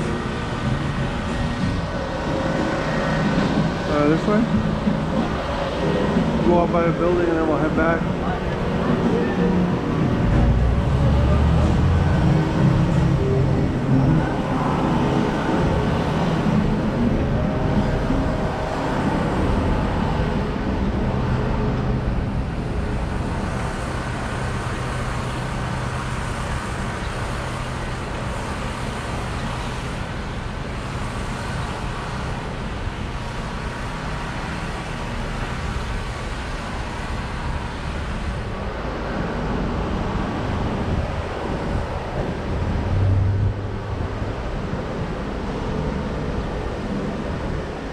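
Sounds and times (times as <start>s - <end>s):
road traffic hum: 0.0s - 47.9s.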